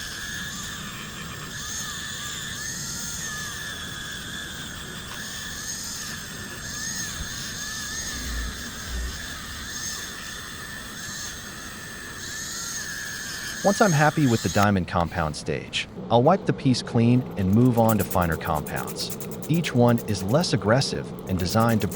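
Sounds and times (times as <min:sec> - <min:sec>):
rotary polishing tool whining: 0:00.0 - 0:15.4, 0:17.2 - 0:21.9.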